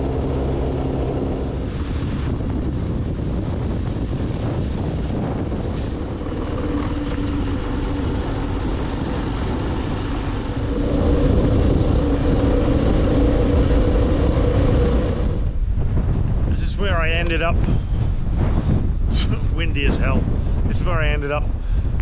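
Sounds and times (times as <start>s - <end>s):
motorcycle engine cruising: 0.0s - 21.4s
wind and road rumble: 0.0s - 22.0s.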